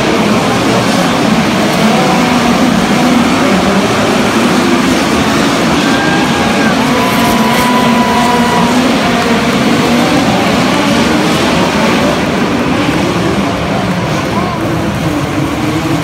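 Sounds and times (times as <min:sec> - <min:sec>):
race car engines running: 0:00.0 - 0:16.0.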